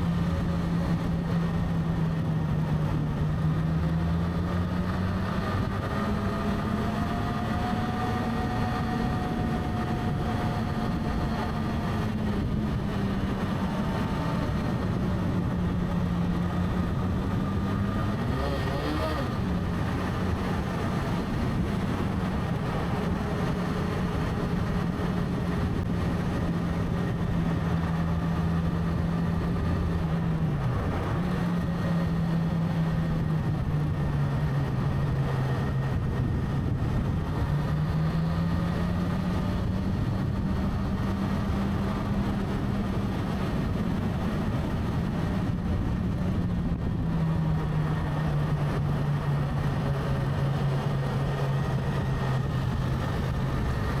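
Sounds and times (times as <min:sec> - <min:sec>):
motorcycle engine riding: 0:00.0 - 0:54.0.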